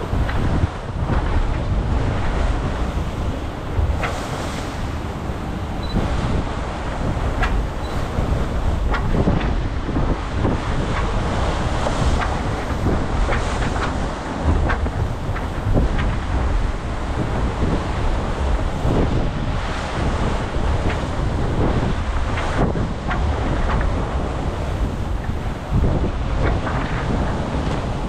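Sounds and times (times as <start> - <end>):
water rushing past hull: 0.0 - 28.0
wind buffeting microphone: 0.0 - 28.0.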